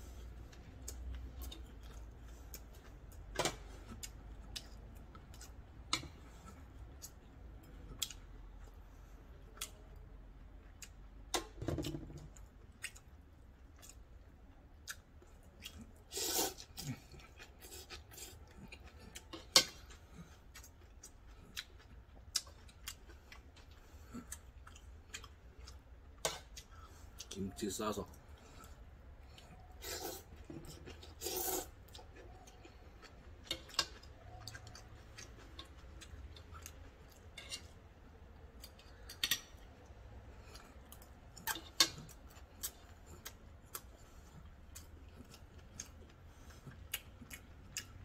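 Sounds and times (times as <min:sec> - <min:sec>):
person chewing: 0:00.1 - 0:10.0, 0:12.2 - 0:27.4, 0:28.2 - 0:48.0.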